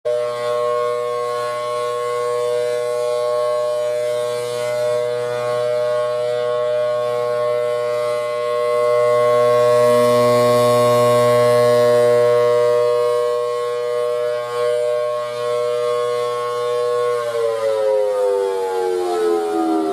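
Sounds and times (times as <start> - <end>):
two-tone warning siren: 0.0 - 19.9.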